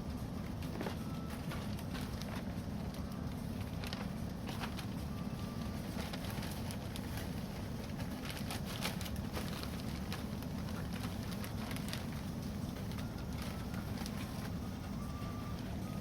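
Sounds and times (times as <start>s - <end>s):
low fire rumble: 0.0s - 16.0s.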